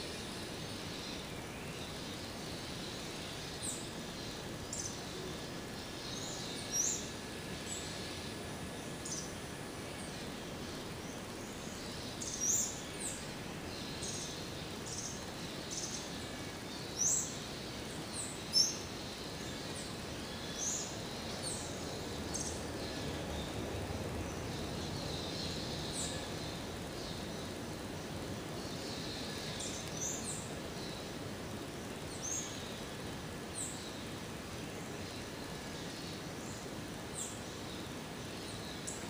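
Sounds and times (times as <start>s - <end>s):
steady background noise: 0.0s - 39.0s.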